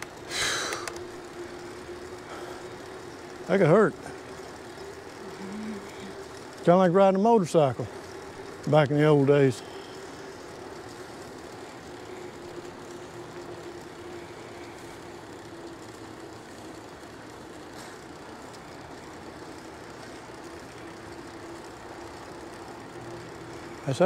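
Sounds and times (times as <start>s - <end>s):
bike tyre noise on trail: 0.0s - 24.0s
faint steady whine: 0.0s - 24.0s.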